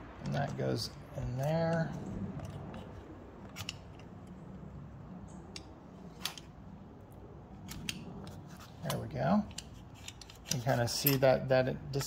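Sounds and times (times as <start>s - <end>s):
steady low hum: 0.0s - 12.0s
metal hardware clicking: 0.1s - 6.6s, 7.5s - 12.0s.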